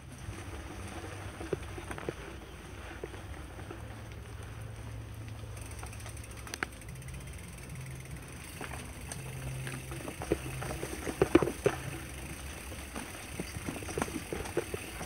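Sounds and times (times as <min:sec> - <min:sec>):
mountain bike rattling: 0:00.0 - 0:15.0
tyres rolling hum: 0:00.0 - 0:15.0.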